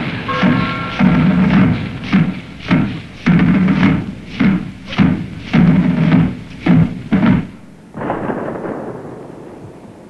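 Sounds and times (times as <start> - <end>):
muffled drums beating slowly: 0.0 - 8.7.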